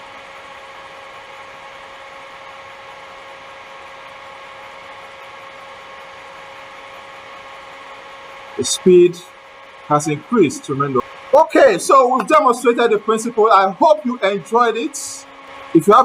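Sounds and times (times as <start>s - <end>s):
engine mechanism whirring hum: 0.0s - 16.0s.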